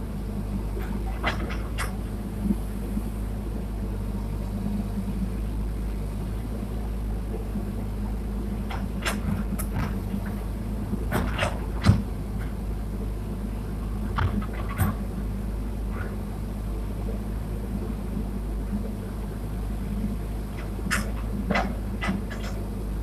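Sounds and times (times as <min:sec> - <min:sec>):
excavator engine droning: 0:00.0 - 0:23.0.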